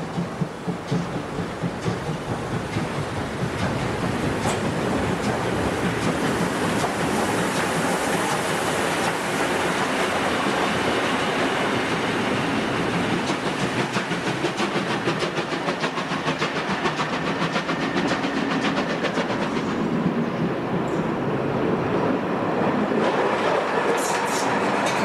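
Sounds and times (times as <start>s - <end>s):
steady steam hiss: 0.0s - 21.4s, 23.7s - 25.0s
steam locomotive moving: 0.0s - 25.0s.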